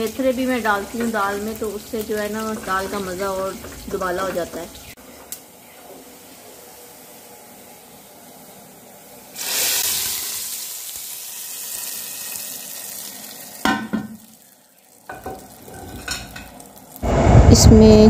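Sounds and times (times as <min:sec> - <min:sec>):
hot oil sizzling and hissing: 0:00.0 - 0:17.3.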